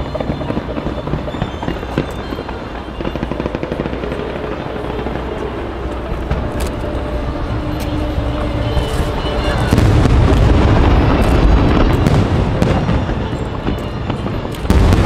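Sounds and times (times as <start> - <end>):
fireworks crackling pops: 0.0 - 15.0
music playing: 0.0 - 15.0.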